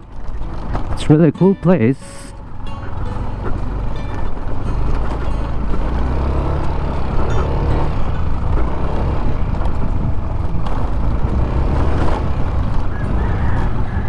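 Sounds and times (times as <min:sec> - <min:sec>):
knocks from bumpy ride: 0:00.0 - 0:01.7, 0:02.4 - 0:14.0
scooter engine rumbling: 0:00.0 - 0:14.0.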